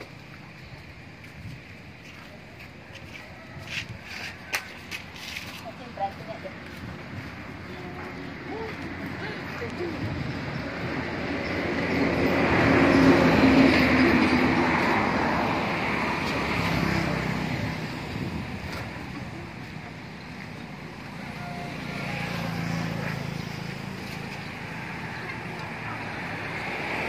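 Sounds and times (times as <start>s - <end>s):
motor vehicle passing by: 5.1s - 27.0s.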